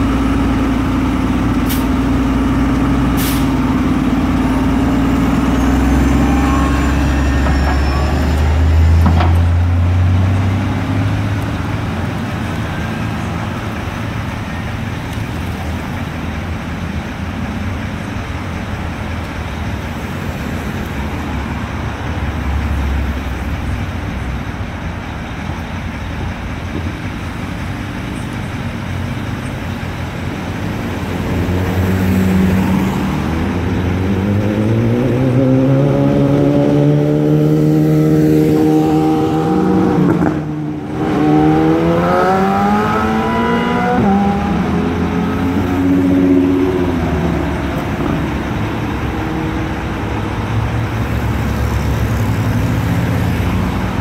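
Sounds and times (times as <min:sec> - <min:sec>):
street traffic: 0:00.0 - 0:54.0
vehicle engine accelerating: 0:00.0 - 0:54.0.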